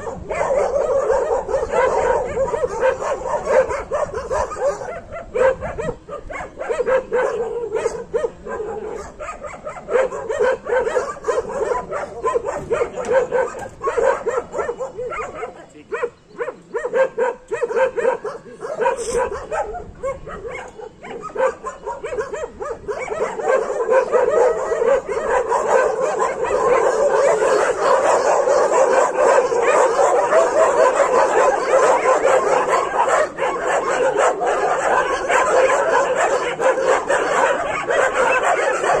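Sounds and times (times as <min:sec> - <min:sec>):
dogs barking and yelping: 0:00.0 - 0:39.0.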